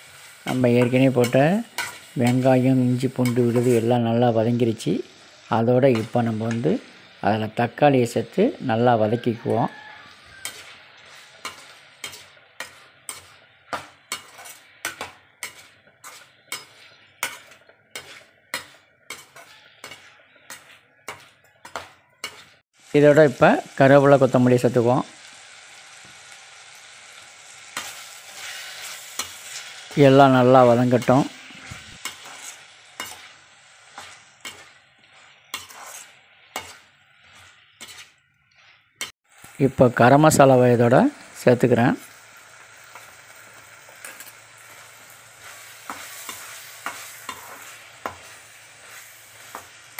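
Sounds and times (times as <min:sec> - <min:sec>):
metal spoon scraping a pan: 0:00.0 - 0:07.1, 0:08.3 - 0:22.6, 0:26.2 - 0:39.5, 0:42.1 - 0:49.9
light frying sizzle: 0:00.0 - 0:49.9.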